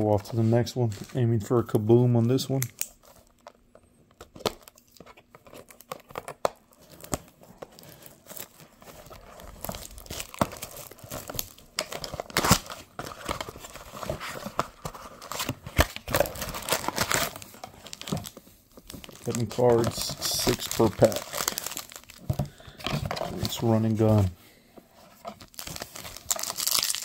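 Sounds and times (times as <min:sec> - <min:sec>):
shrink wrap crinkling and tearing: 0:04.3 - 0:24.3, 0:25.3 - 0:27.0.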